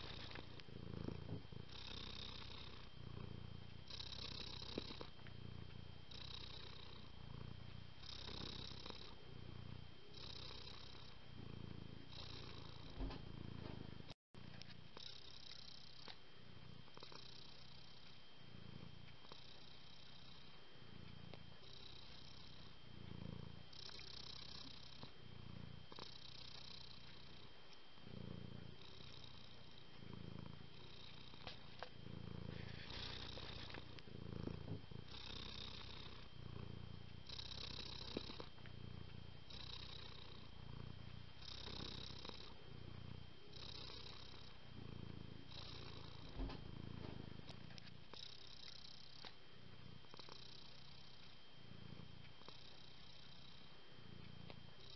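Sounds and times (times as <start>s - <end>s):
cat purring: 0.0s - 54.9s.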